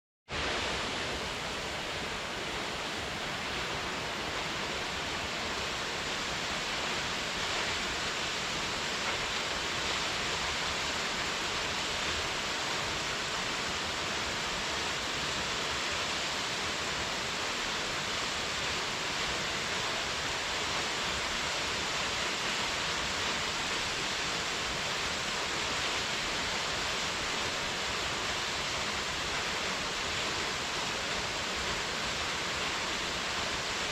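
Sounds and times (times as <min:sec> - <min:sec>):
waterfall rushing: 0:00.3 - 0:33.9.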